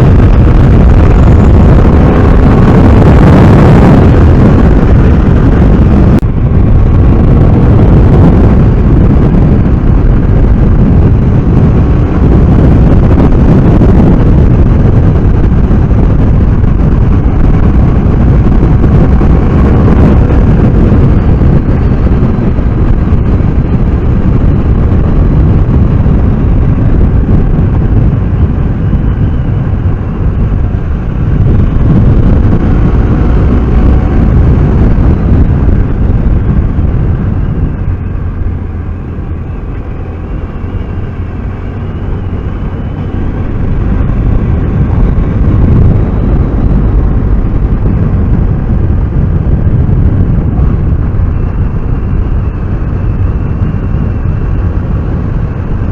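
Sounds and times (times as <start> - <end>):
motorcycle engine running: 0.0 - 55.9
wind rumbling on microphone: 0.0 - 55.9.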